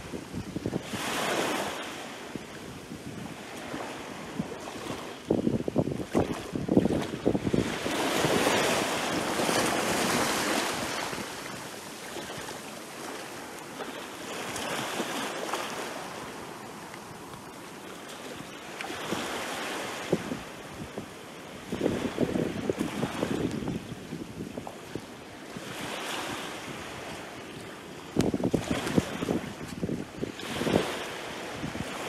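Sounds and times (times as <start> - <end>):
small waves washing on beach: 0.0 - 32.0.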